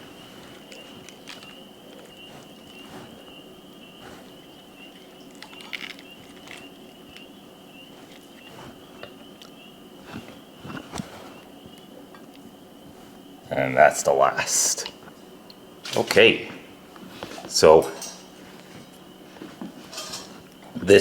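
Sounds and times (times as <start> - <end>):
steady high-pitched hum: 0.0 - 21.0.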